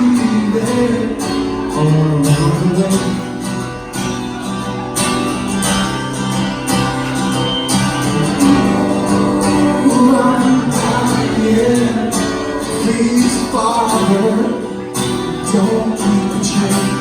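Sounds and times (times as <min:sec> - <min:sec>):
guitar chords: 0:00.0 - 0:17.0
live band playing: 0:00.0 - 0:17.0.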